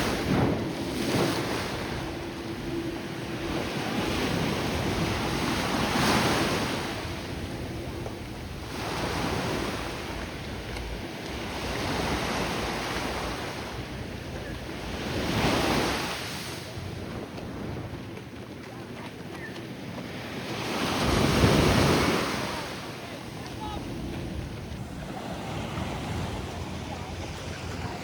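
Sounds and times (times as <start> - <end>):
ocean surf breaking: 0.0 - 18.1, 20.0 - 28.0
wind buffeting microphone: 0.0 - 28.0.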